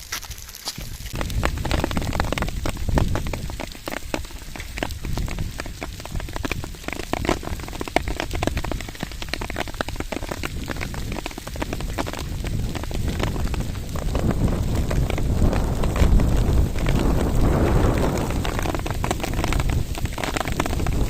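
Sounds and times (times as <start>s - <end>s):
wind rumble on microphone: 0.0s - 21.0s
heavy rain tapping: 1.0s - 21.0s.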